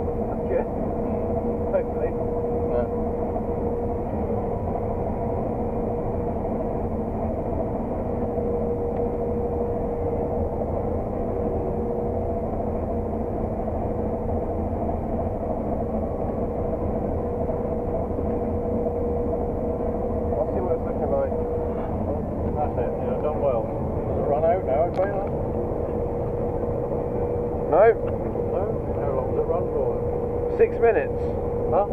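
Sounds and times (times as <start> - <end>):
combine harvester engine drone: 0.0 - 31.9
constant whine: 0.0 - 31.9.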